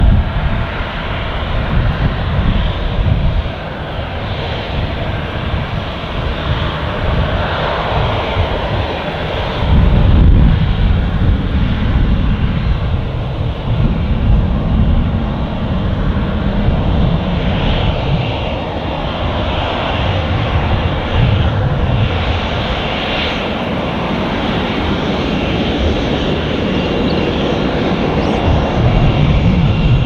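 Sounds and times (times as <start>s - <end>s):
jet engines hissing and rumbling: 0.0s - 30.0s.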